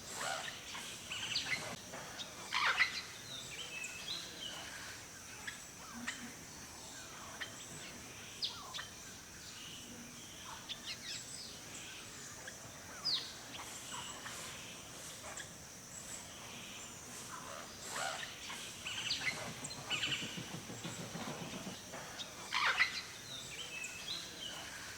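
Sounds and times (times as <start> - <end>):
birds calling and chirping: 0.0 - 24.9
forest background hiss: 0.0 - 24.9.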